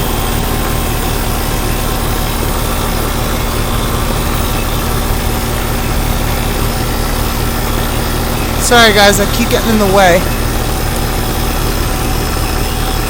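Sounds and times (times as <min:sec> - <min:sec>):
compressor humming: 0:00.0 - 0:13.0
fan air rushing: 0:00.0 - 0:13.0.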